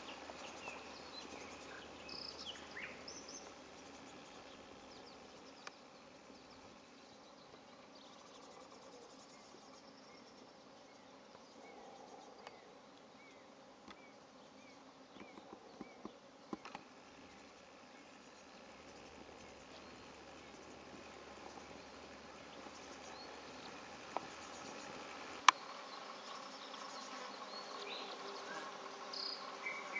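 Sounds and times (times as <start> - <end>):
insects buzzing: 0.0 - 29.9.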